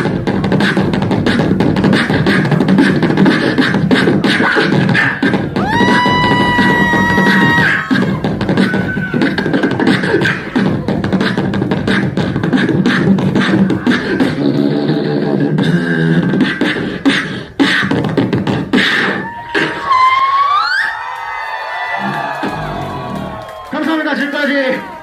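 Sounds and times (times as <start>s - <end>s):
person beatboxing: 0.0s - 20.1s.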